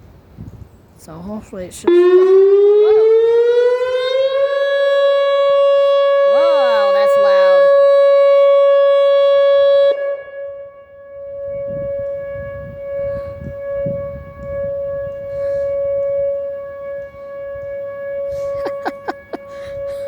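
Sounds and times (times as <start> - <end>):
warning siren steady tone: 1.8 - 20.0.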